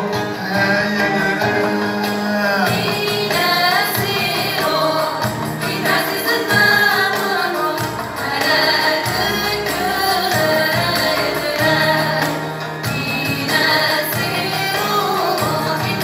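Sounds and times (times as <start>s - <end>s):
band accompaniment: 0.0s - 16.0s
person singing: 0.0s - 16.0s.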